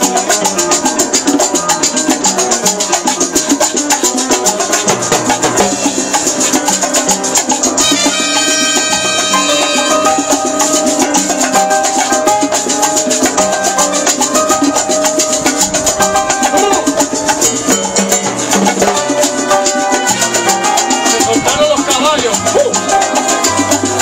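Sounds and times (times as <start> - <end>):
conga drums: 0.0 - 24.0
salsa band playing: 0.0 - 24.0
held brass notes: 4.8 - 24.0.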